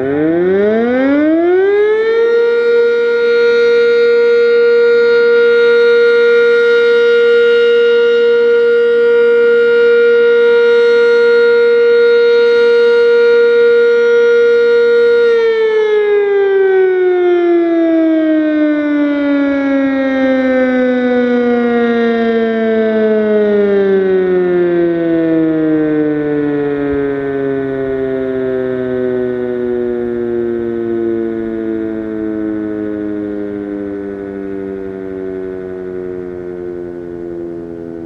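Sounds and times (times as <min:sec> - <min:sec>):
warning siren: 0:00.0 - 0:38.0.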